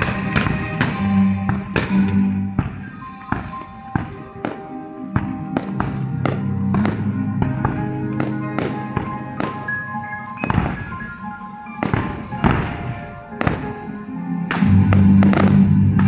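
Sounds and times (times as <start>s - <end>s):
fireworks bursting: 0.0s - 16.0s
music soundtrack: 0.0s - 16.0s.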